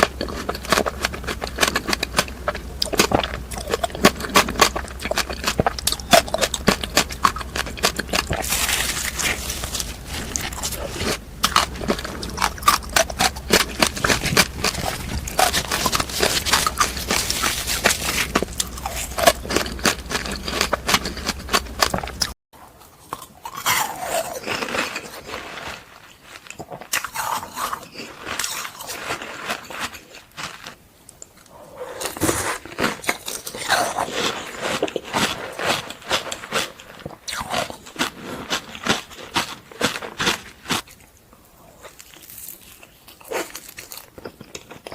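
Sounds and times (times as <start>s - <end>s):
crunching frozen fruit: 0.0s - 44.9s.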